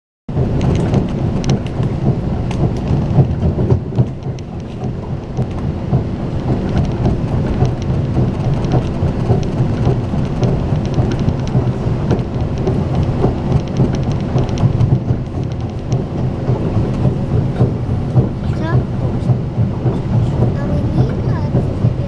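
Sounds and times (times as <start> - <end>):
train wheels rumbling on rails: 0.3 - 22.0.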